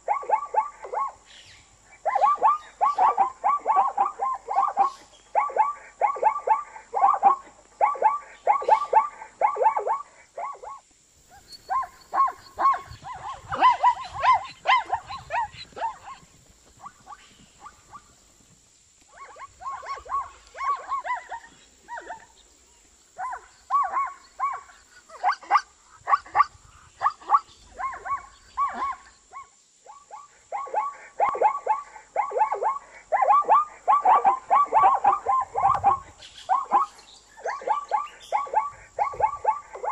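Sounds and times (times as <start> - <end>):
zebra barking yelps: 0.0 - 18.2, 19.1 - 22.4, 23.2 - 39.9.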